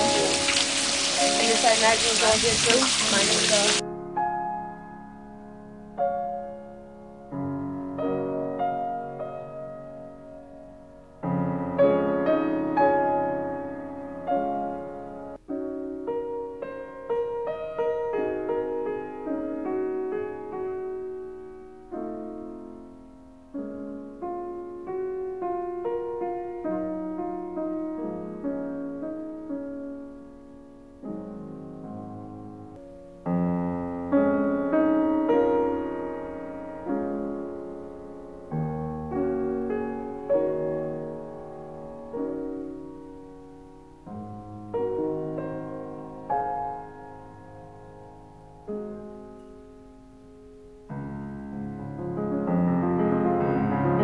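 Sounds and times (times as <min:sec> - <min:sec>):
solo piano music: 0:00.0 - 0:54.0.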